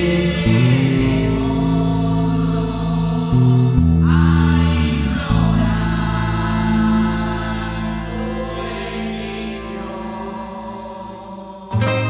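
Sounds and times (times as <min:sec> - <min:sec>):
choir singing held chords: 0:00.0 - 0:12.0
sustained low notes: 0:00.0 - 0:12.0.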